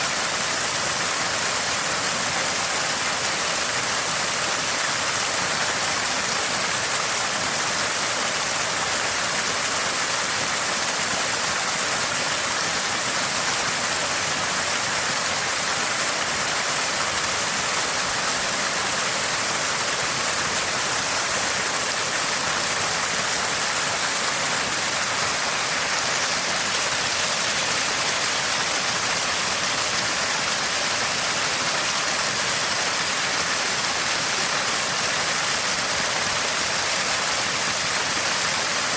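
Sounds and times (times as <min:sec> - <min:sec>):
spring water gurgling and splashing: 0:00.0 - 0:38.9.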